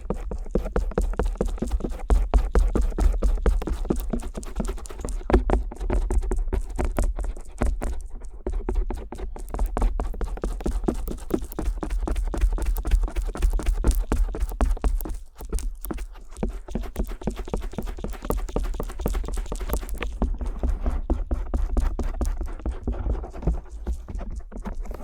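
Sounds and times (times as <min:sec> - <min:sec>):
metal ear pick scraping and tapping: 0:00.0 - 0:25.0.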